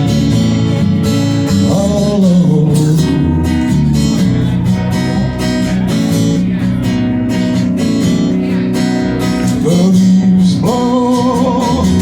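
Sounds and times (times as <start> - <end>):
bass line: 0.0 - 12.0
guitar strumming chords: 0.0 - 12.0.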